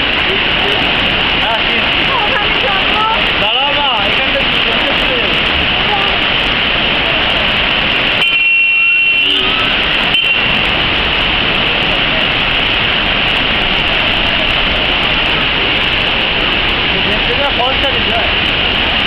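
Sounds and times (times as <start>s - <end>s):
waterfall roar: 0.0s - 19.0s.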